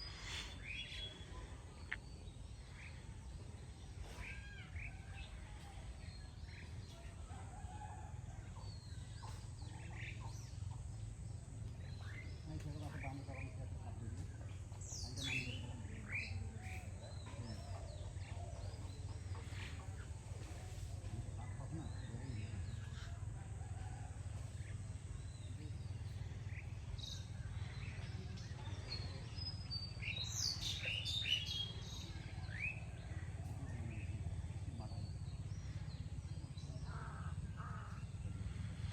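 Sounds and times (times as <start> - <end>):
birds chirping: 0.0 - 38.9
steady low hum: 0.0 - 38.9.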